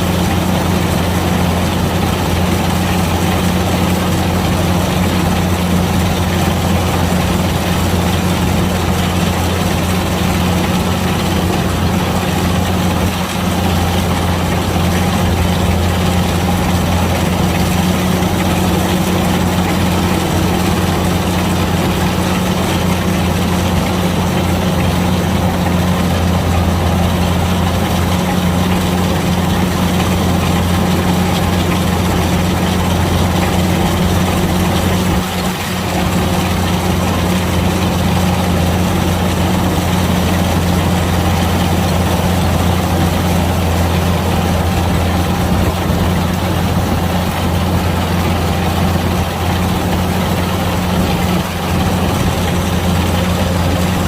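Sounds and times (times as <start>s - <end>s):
diesel engine drone: 0.0s - 54.0s
machinery noise: 0.0s - 54.0s.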